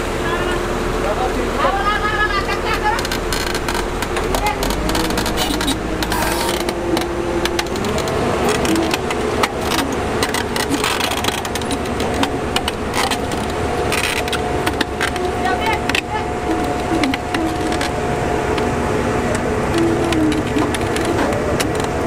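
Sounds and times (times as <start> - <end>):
heavy diesel engine under load: 0.0 - 22.0
sharp clicks and knocks: 3.0 - 18.7, 19.3 - 22.0.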